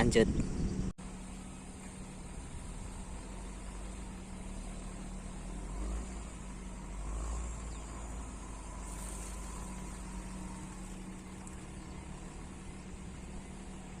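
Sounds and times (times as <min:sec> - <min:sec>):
motor hum with low rumble: 0:00.0 - 0:14.0.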